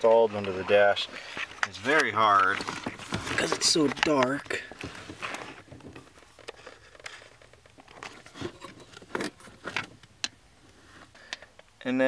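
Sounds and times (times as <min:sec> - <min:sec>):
light rustling and clicks: 0:00.1 - 0:10.4.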